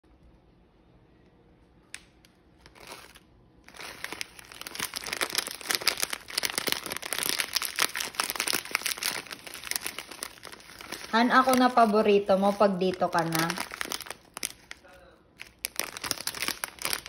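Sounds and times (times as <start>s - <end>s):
plastic bag crinkling: 2.6s - 17.0s.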